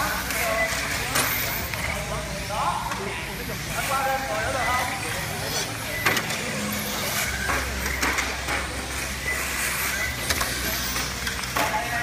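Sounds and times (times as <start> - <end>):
radio-controlled cars whirring: 0.0 - 12.0.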